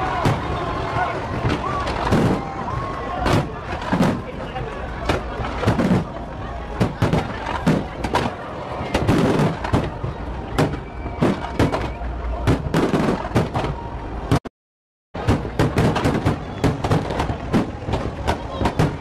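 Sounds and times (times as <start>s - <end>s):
fireworks bursting bangs: 0.0s - 0.7s, 1.3s - 4.4s, 5.0s - 14.4s, 15.2s - 19.0s
fireworks crackling rumble: 0.0s - 14.4s, 15.2s - 19.0s.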